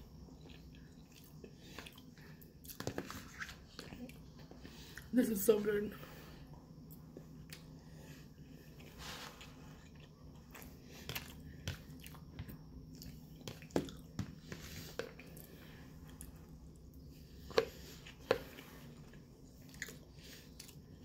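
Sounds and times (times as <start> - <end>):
low steady hum: 0.0 - 21.0
close-mic chewing: 0.1 - 5.1, 6.8 - 21.0.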